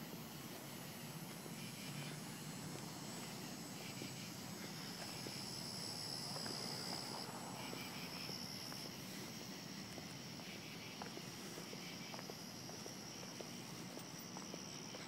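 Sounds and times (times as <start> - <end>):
insect chirps: 0.0 - 15.0
insects trilling: 0.0 - 15.0
footsteps on pavement: 0.4 - 15.0.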